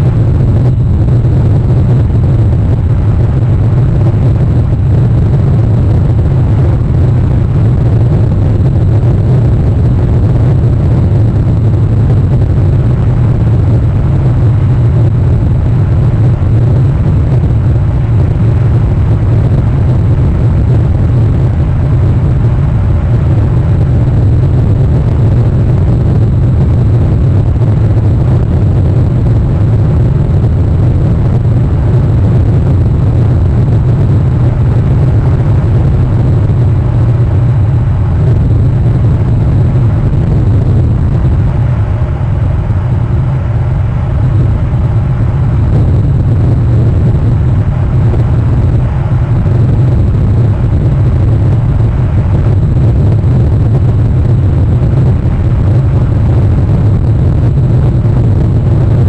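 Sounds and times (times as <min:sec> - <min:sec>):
loud low rumble: 0:00.0 - 0:59.0.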